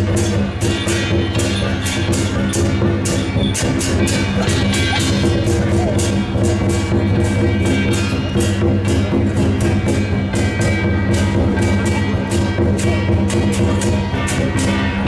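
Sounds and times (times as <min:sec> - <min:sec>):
drum and cymbals beating: 0:00.0 - 0:15.0.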